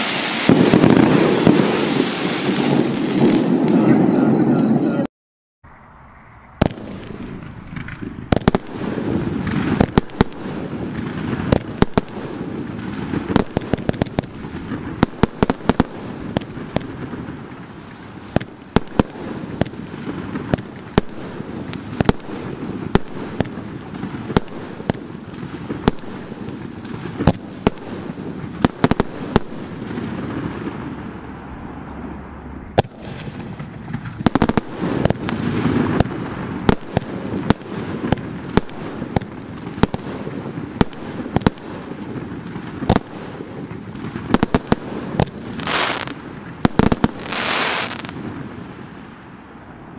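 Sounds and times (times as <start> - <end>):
firework bangs: 0.0 - 4.8, 6.4 - 49.9
firework rushing noise: 0.0 - 5.0, 5.7 - 48.6.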